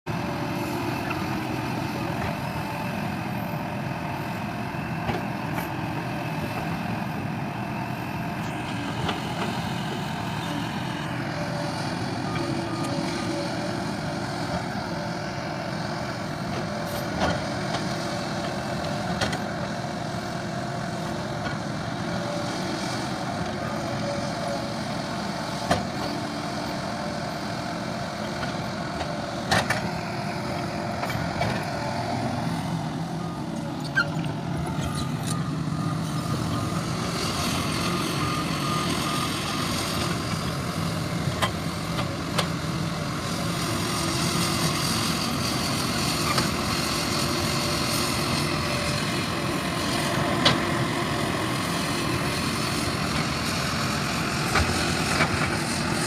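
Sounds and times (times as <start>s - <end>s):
excavator diesel engine running: 0.1s - 56.0s.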